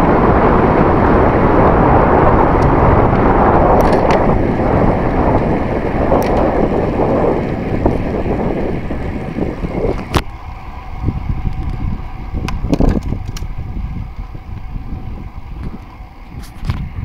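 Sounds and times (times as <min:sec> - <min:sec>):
bicycle road rumble: 0:00.0 - 0:17.0
wind buffeting microphone: 0:00.0 - 0:17.0.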